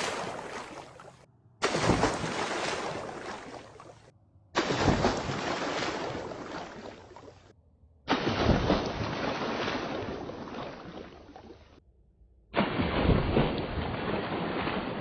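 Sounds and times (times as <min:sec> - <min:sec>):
slowed water splash: 0:00.0 - 0:07.5, 0:08.1 - 0:11.8, 0:12.6 - 0:15.0.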